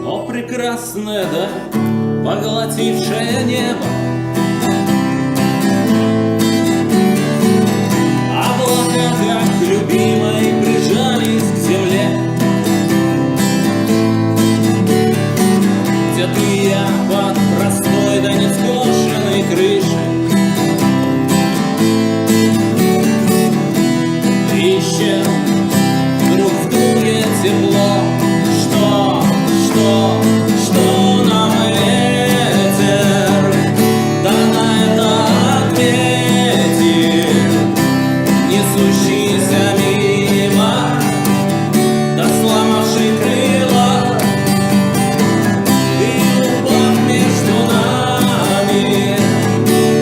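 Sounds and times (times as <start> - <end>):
acoustic guitar strumming: 0.0 - 50.0.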